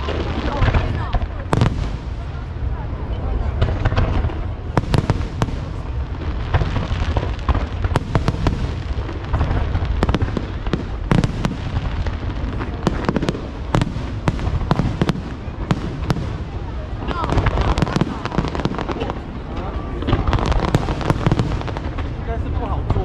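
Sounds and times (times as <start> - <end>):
fireworks cracks and bangs: 0.0 - 23.0.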